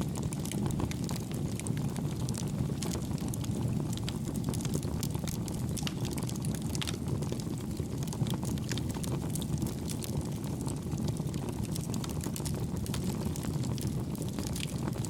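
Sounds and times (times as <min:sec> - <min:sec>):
campfire burning and crackling: 0:00.0 - 0:15.0.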